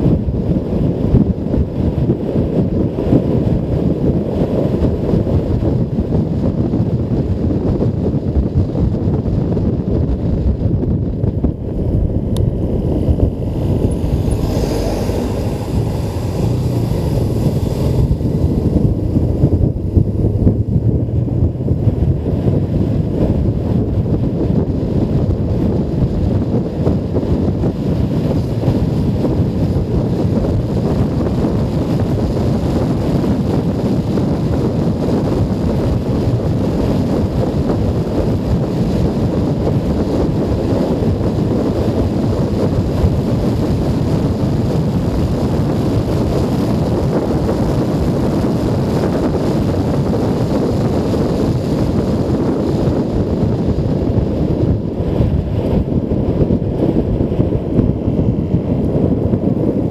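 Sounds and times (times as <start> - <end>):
motorcycle running: 0.0 - 59.9
road noise: 0.0 - 59.9
wind buffeting microphone: 0.0 - 59.9.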